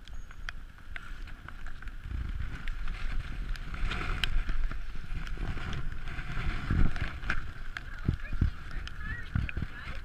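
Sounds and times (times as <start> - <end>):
bike clicks and rattles: 0.0 - 10.0
wind buffeting microphone: 0.0 - 10.0.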